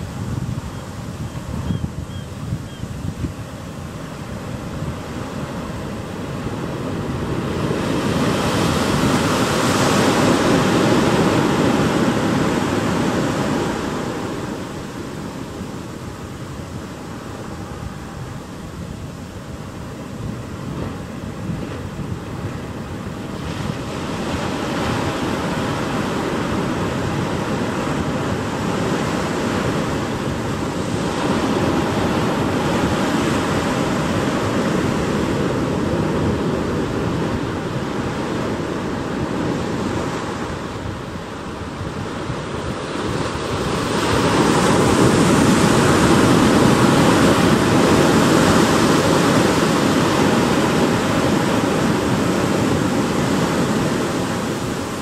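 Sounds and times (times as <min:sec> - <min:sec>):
ocean surf breaking on beach: 0:00.0 - 0:55.0.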